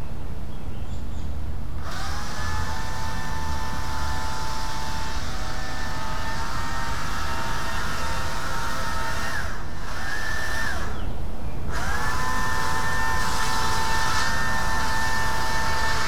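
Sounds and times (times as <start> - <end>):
chainsaw engine at high revs: 1.8 - 11.1, 11.7 - 16.0.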